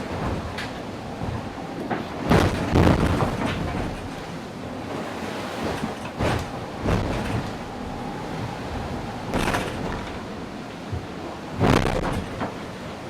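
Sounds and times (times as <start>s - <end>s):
rush of wind and water: 0.0s - 13.0s
waves crashing against hull: 0.0s - 13.0s.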